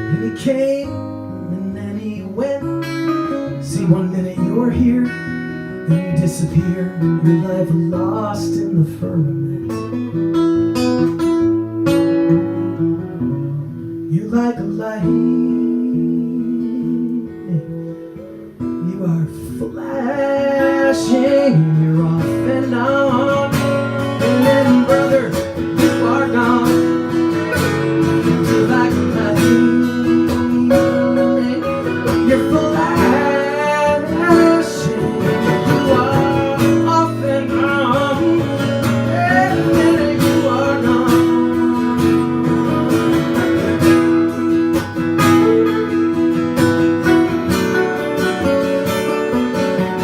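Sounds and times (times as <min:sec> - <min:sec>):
acoustic guitars playing: 0:00.0 - 0:50.0.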